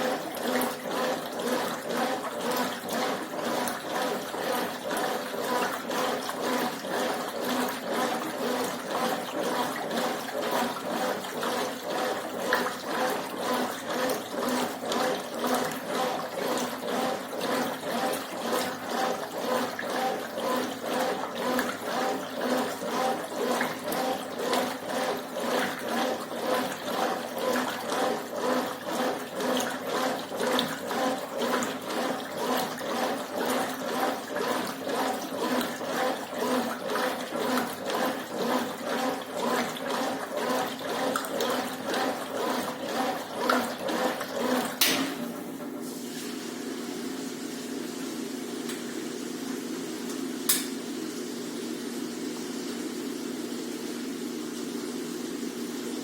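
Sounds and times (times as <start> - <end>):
washing machine water churning: 0.0 - 56.0.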